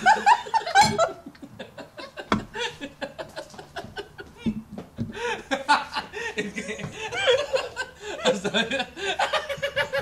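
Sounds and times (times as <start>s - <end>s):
people laughing stifled: 0.0s - 10.0s.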